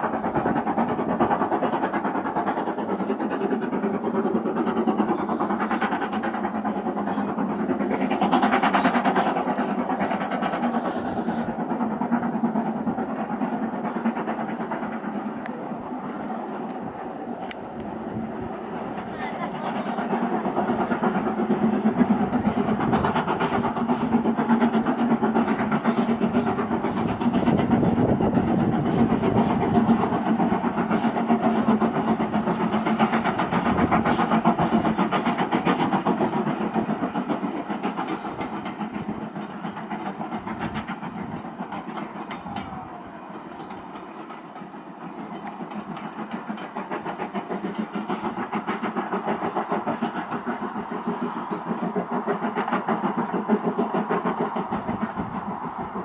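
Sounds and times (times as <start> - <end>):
steam locomotive rapid beating: 0.0 - 56.0.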